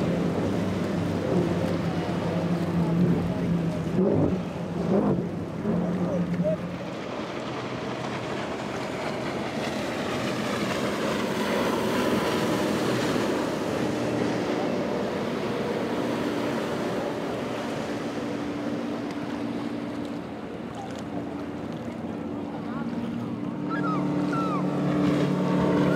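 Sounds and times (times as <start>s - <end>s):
outboard motor humming: 0.0s - 25.9s.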